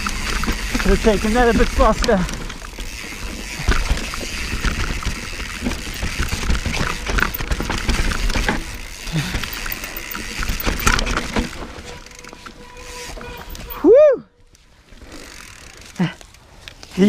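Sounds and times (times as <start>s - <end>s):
tyres rumbling over dirt: 0.0s - 13.8s
bike chain and frame clicking: 0.0s - 17.0s.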